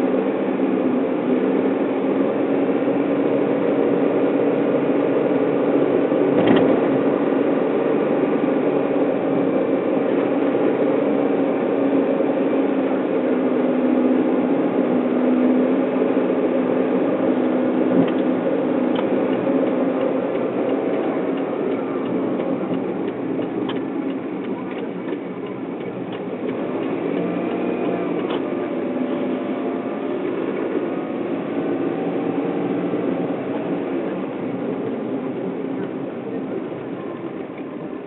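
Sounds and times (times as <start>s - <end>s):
car engine and tyre hum: 0.0s - 38.0s.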